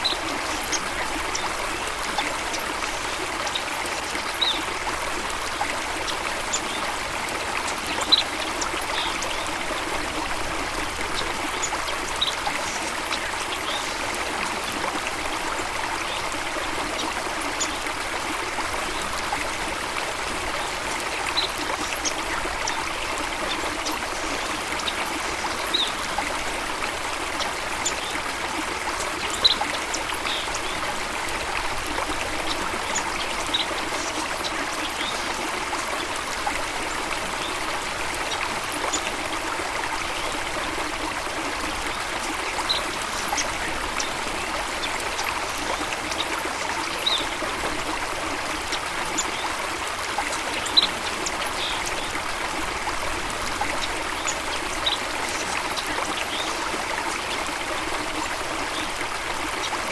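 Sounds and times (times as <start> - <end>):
water flowing and trickling: 0.0 - 59.9.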